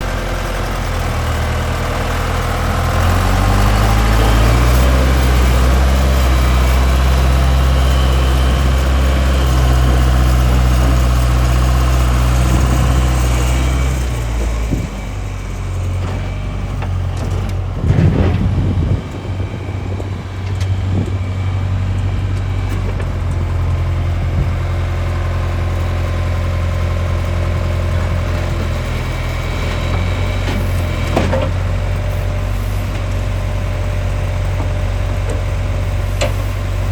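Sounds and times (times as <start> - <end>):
diesel engine revving and idling: 0.0 - 36.9.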